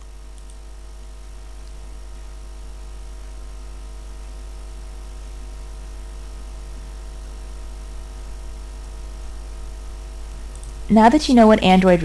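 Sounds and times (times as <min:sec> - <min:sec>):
background hiss: 0:00.0 - 0:12.0
low mains hum: 0:00.0 - 0:12.0.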